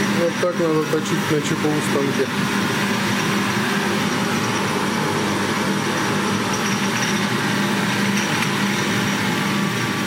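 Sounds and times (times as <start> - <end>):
machine tool humming and whining: 0.0 - 10.0.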